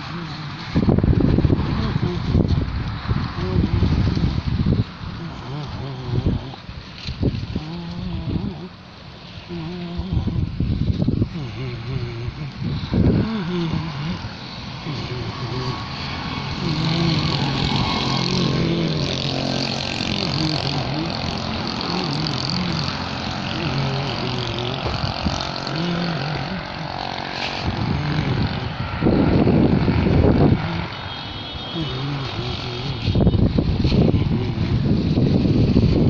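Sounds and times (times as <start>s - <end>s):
wind buffeting microphone: 0.0s - 8.8s, 9.4s - 36.0s
engine running steadily: 0.0s - 36.0s.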